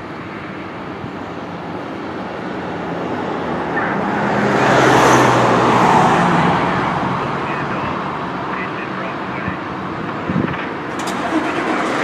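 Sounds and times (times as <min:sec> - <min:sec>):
fire engine diesel engine: 0:00.0 - 0:12.0.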